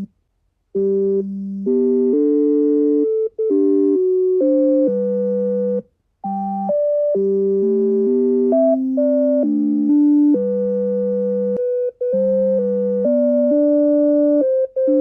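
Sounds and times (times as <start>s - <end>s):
synthesized chord-like tones: 0.8s - 15.0s.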